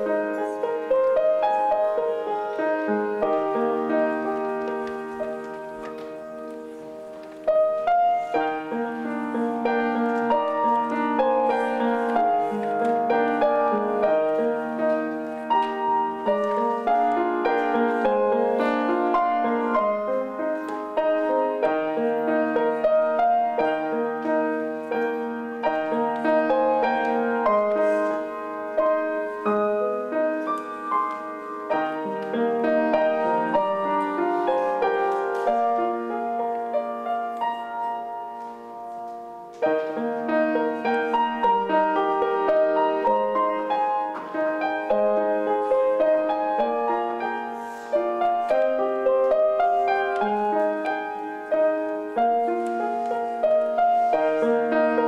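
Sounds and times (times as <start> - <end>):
slow piano chords: 0.0 - 55.0.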